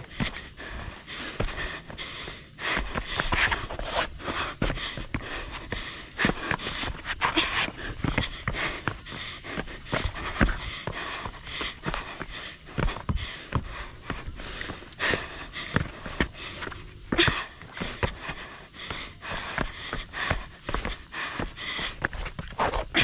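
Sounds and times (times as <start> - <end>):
hard panting breath: 0.0 - 23.0
running footsteps on rock: 0.0 - 23.0.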